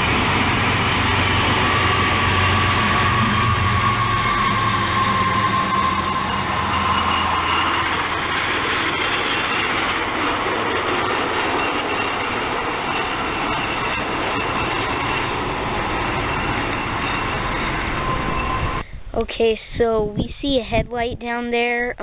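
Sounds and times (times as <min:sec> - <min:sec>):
train wheel and rail noise: 0:00.0 - 0:21.7
diesel locomotive engine rumble: 0:00.0 - 0:22.0.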